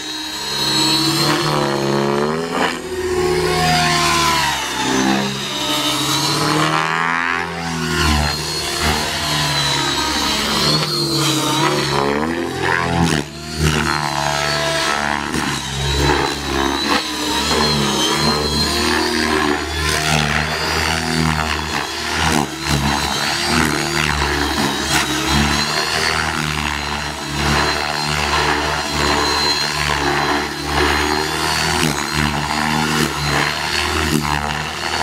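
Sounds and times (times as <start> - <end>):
model helicopter rotor whine: 0.0 - 35.0.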